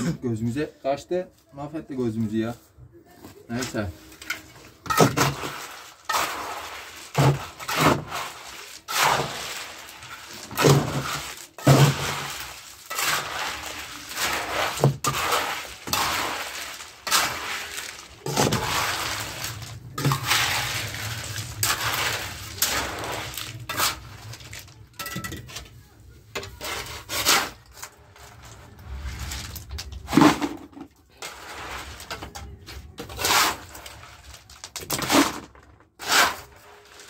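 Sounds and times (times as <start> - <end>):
shovel scraping through gravel: 3.5 - 24.8, 26.4 - 30.6, 31.2 - 37.0.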